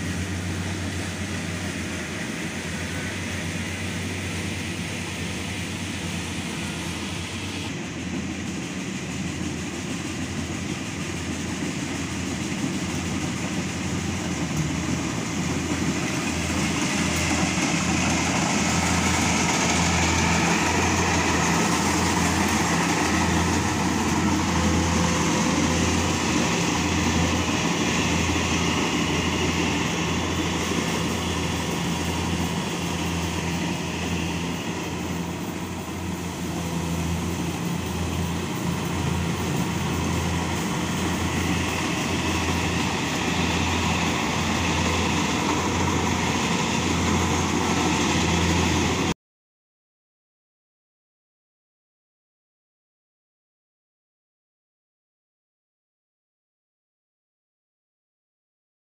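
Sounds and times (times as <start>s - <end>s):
combine harvester running: 0.0s - 49.1s.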